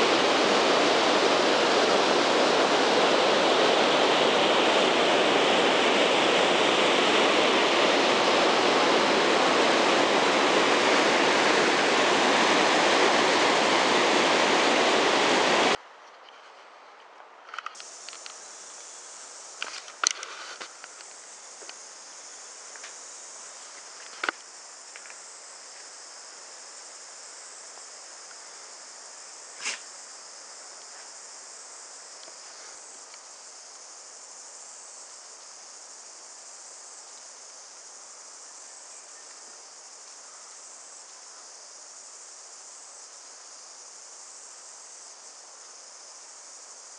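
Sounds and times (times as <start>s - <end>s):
insects chorus: 0.0s - 16.6s, 17.5s - 46.9s.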